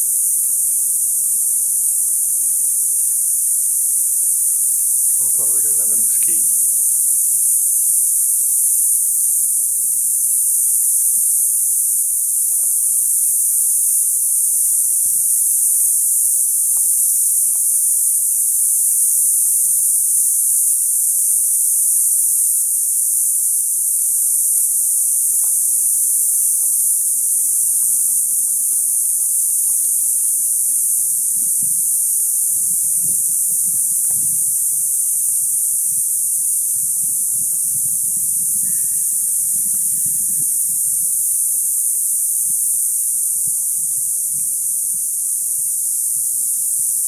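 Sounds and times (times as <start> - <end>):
cicadas singing: 0.0 - 47.0.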